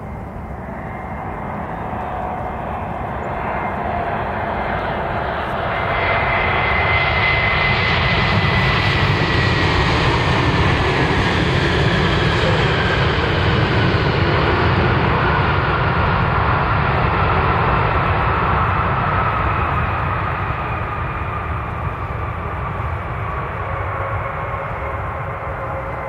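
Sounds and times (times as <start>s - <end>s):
high engine whine: 0.0s - 26.0s
jet airliner engines: 0.0s - 26.0s.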